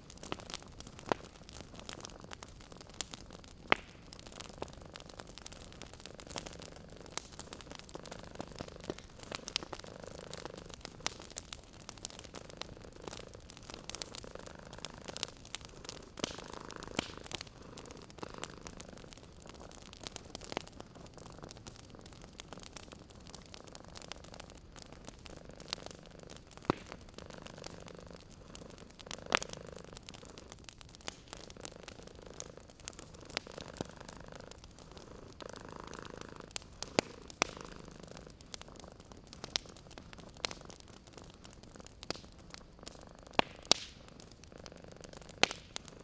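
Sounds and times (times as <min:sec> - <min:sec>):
cat purring: 0:00.0 - 0:46.0
wood fire crackling and popping: 0:00.0 - 0:46.0.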